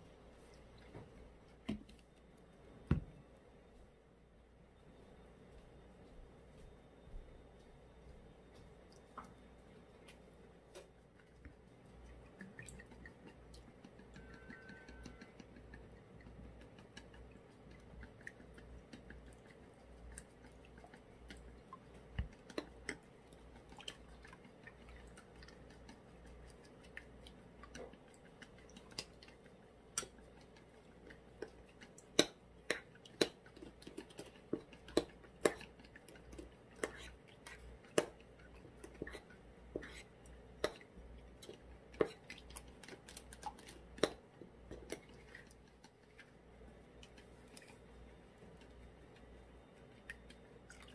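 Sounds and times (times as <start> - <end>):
faint low hum: 0.0 - 50.9.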